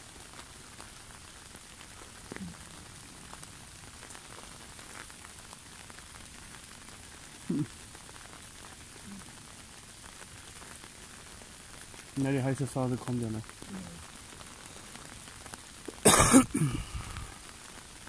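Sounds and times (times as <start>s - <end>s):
rain falling on a lake: 0.0s - 18.0s.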